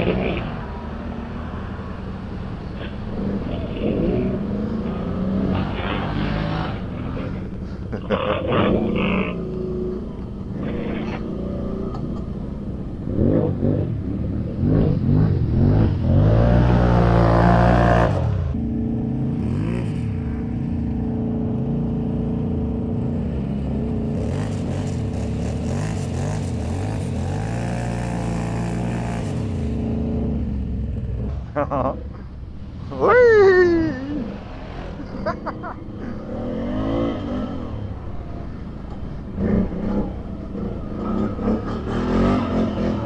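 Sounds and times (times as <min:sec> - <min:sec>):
quad bike engine revving: 0:02.7 - 0:20.4, 0:23.2 - 0:31.5, 0:34.2 - 0:43.0.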